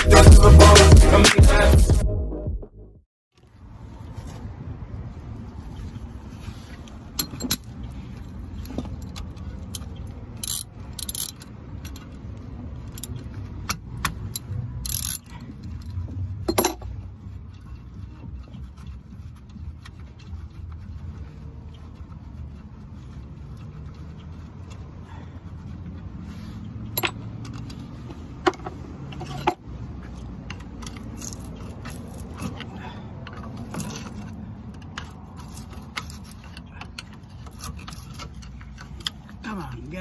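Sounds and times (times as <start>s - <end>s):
metallic clinks and scrapes: 3.4s - 40.0s.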